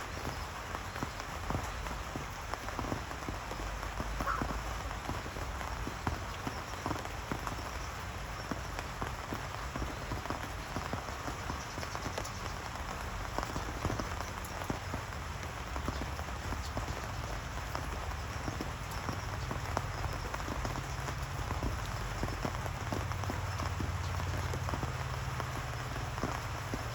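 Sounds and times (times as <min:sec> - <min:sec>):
raindrops tapping surfaces: 0:00.0 - 0:26.9
steady rain falling: 0:00.0 - 0:26.9.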